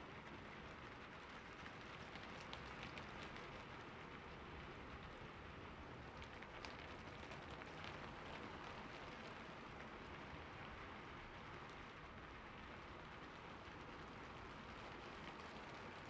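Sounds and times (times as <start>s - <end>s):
rain falling on a roof: 0.0s - 16.0s.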